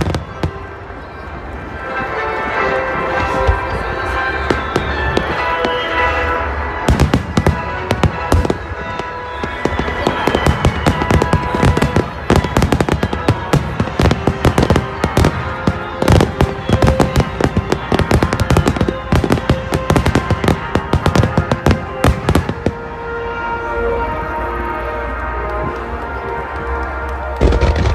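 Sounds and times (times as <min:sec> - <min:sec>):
fireworks bangs and crackles: 0:00.0 - 0:24.3, 0:25.1 - 0:27.9
music playing: 0:00.0 - 0:27.9.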